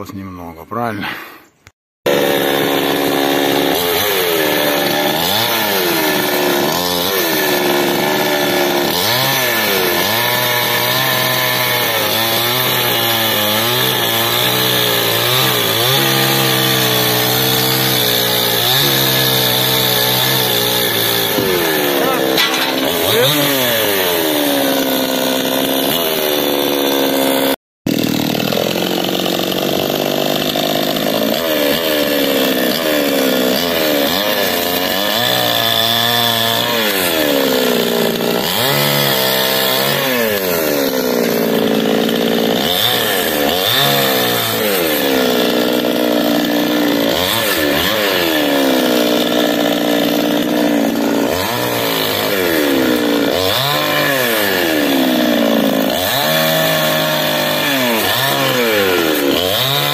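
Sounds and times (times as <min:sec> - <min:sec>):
chainsaw cutting wood: 0:02.0 - 0:59.9.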